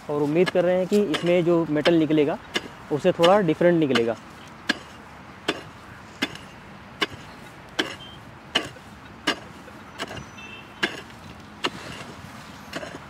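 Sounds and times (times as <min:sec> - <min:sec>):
pickaxe striking hard soil: 0:00.4 - 0:13.0.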